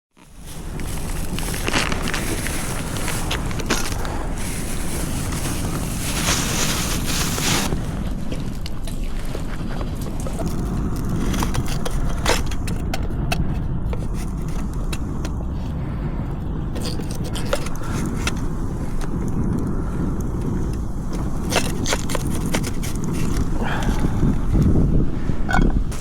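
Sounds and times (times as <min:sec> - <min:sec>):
gear clicking and scraping: 0:00.1 - 0:15.8, 0:16.7 - 0:24.8
wind buffeting microphone: 0:00.2 - 0:26.0.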